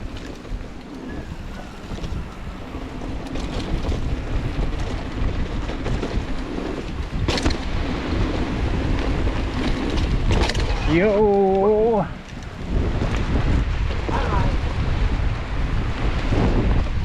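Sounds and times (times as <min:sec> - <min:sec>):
bike rolling on dirt trail: 0:00.0 - 0:17.0
wind rushing over microphone: 0:00.0 - 0:17.0.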